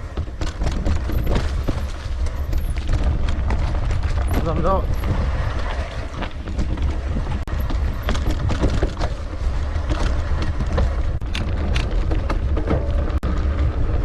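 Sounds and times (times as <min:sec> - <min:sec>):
bike rattling over ground: 0:00.0 - 0:14.0
wind buffeting microphone: 0:00.0 - 0:14.0.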